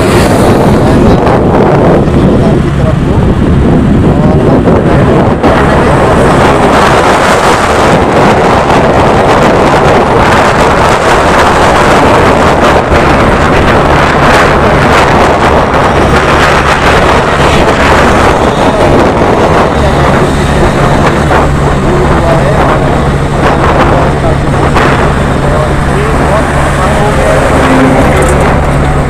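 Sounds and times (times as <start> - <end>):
scooter engine humming: 0.0 - 11.3, 12.4 - 29.0
wind rushing over microphone: 0.0 - 29.0.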